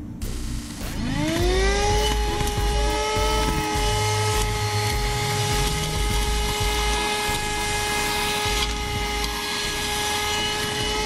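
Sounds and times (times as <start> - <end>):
handheld vacuum cleaner running: 0.6 - 11.0.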